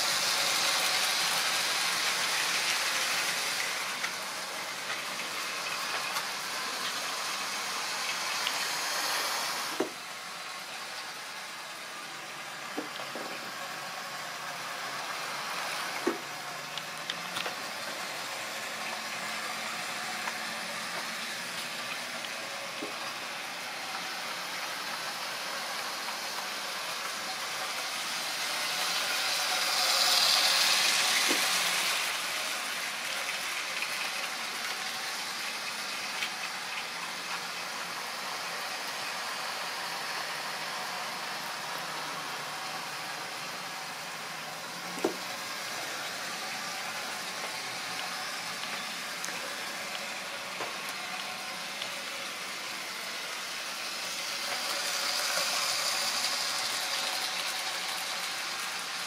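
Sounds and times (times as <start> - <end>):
model train motors whirring: 0.0 - 59.0.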